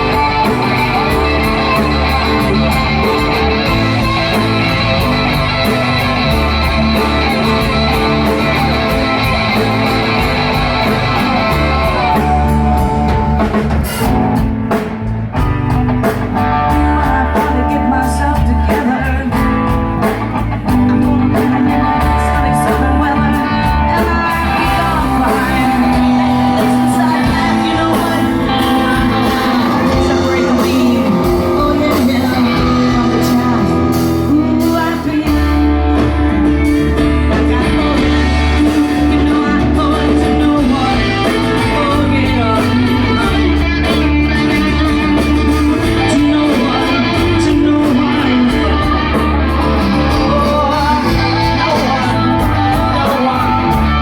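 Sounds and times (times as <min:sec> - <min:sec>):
person singing: 0:00.0 - 0:15.0, 0:16.0 - 0:54.0
bass guitar: 0:00.0 - 0:54.0
drums: 0:00.0 - 0:54.0
electric guitar: 0:00.0 - 0:54.0.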